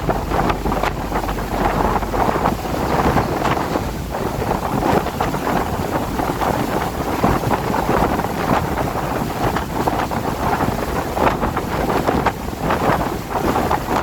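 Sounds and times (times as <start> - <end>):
rain: 0.0 - 14.0
wind gusting: 0.0 - 14.0.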